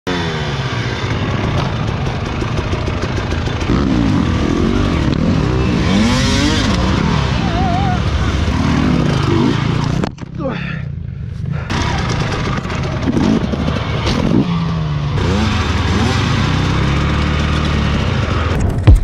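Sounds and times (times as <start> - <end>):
dirt bike engines revving: 0.1 - 18.6.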